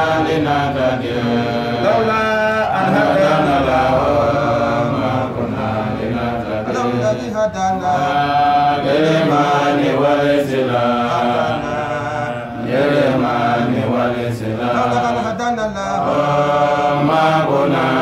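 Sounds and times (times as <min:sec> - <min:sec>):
man chanting religious recitation: 0:00.0 - 0:18.0.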